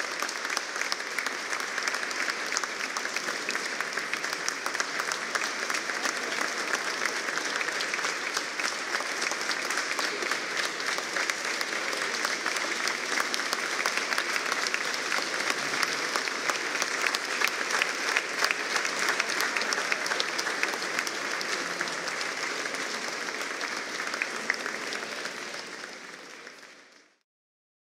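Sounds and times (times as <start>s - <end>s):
audience applauding: 0.0s - 27.2s.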